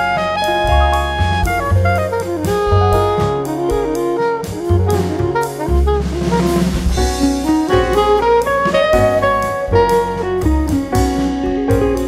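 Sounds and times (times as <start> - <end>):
instrumental music with drums and bass: 0.0 - 12.0.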